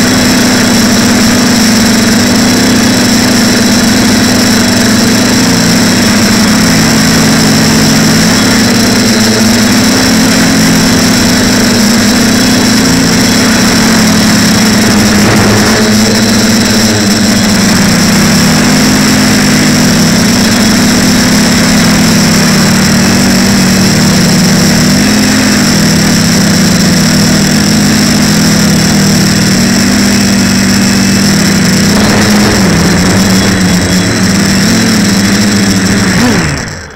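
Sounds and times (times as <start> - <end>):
quadcopter motors buzzing: 0.0 - 36.9
steady high whine: 0.0 - 36.9.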